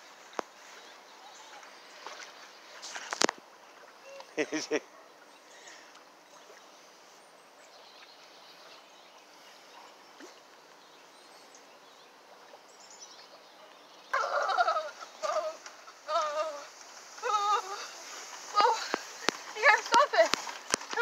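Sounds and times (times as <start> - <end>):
low steady hiss: 0.0 - 21.0
faint bird chirps: 0.6 - 3.0, 3.8 - 19.8.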